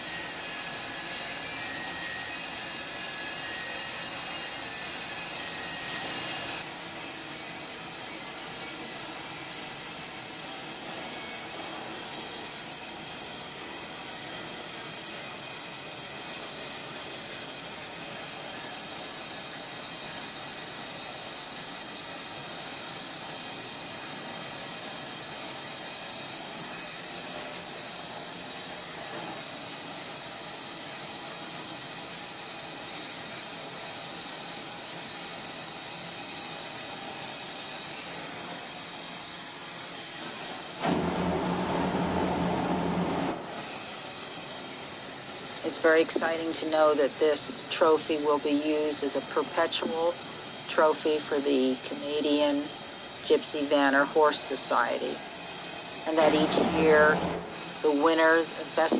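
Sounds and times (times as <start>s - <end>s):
gas torch flame hissing: 0.0s - 58.9s.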